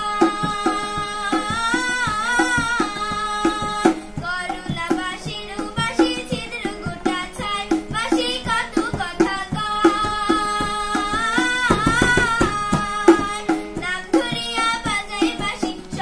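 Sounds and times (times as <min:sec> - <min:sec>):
harmonium chords: 0:00.0 - 0:16.0
tabla rhythm: 0:00.0 - 0:16.0
woman singing: 0:00.0 - 0:16.0.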